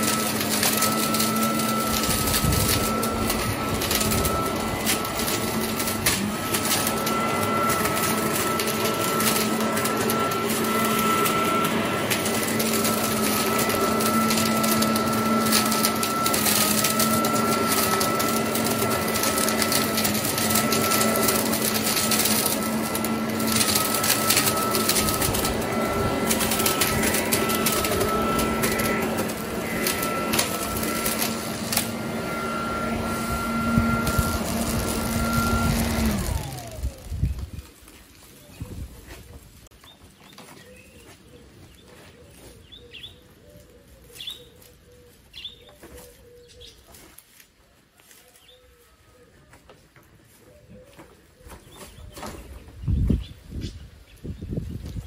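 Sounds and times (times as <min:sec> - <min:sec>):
leaf blower running: 0:00.0 - 0:53.6.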